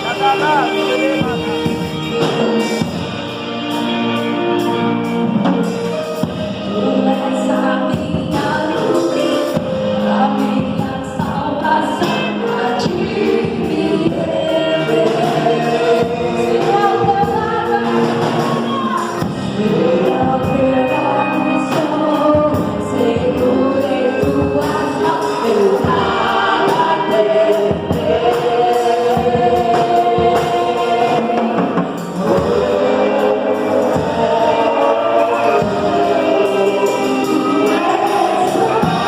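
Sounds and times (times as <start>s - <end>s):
band playing gospel music: 0.0s - 39.0s
choir singing: 0.0s - 39.0s
steady percussion: 0.0s - 39.0s.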